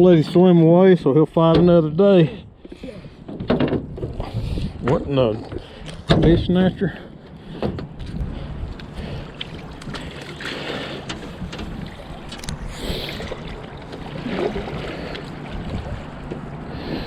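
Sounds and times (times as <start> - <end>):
river water moving: 0.0 - 17.0
wind: 0.0 - 17.0.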